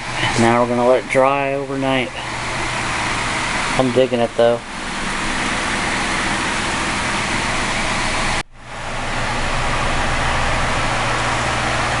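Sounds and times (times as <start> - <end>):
machine running with low hum: 0.0 - 12.0.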